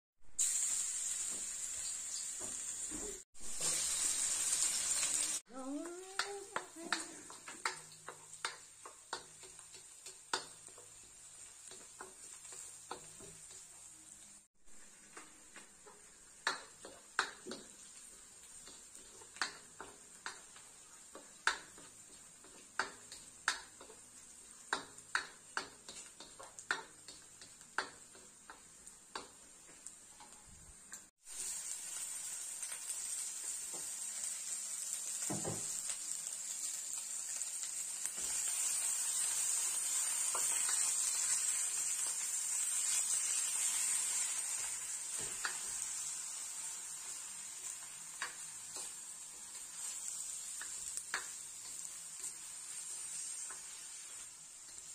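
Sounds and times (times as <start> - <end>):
chicken frying in wok: 0.3 - 54.9
onions sizzling in oil: 0.3 - 54.9
spatula tapping and scraping wok: 5.7 - 14.0, 14.7 - 31.7, 32.7 - 34.3, 36.9 - 54.9.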